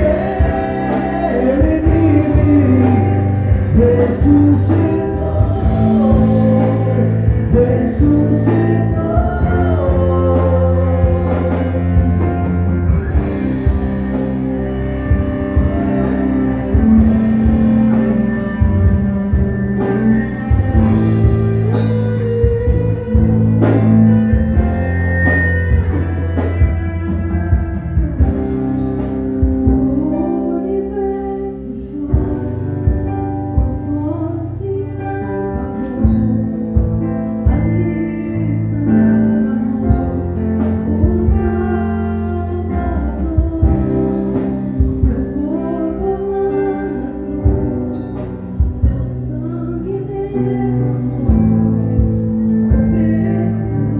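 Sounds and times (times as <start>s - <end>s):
person singing: 0.0s - 28.4s, 29.4s - 53.9s
band music: 0.0s - 53.9s.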